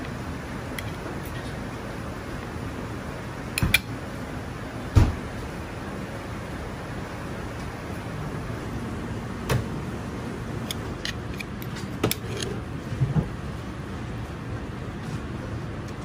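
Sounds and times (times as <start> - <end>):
kitchen hum: 0.0 - 16.0.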